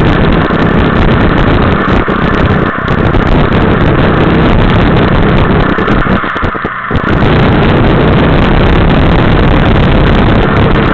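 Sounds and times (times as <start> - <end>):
motorcycle engine running: 0.0 - 10.9
wind rushing over microphone: 0.0 - 10.9.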